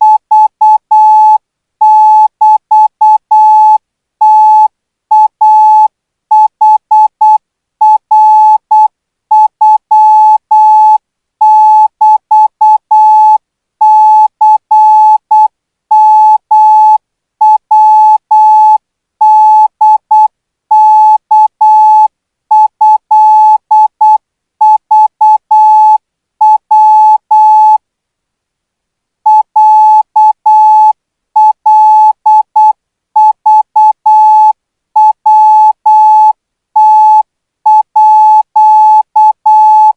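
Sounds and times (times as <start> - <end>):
morse code beeps: 0.0 - 27.8, 29.3 - 39.9.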